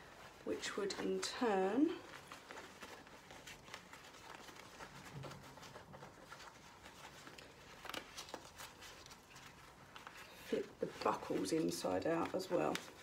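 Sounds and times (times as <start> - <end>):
fabric and straps rustling: 0.0 - 13.0.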